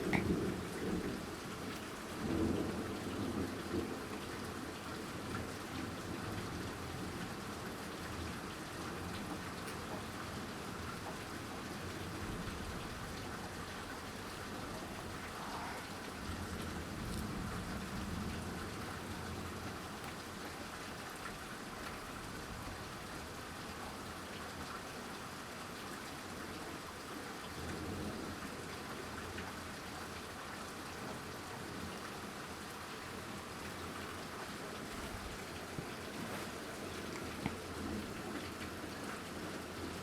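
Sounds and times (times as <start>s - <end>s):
heavy rain downpour: 0.0s - 40.0s.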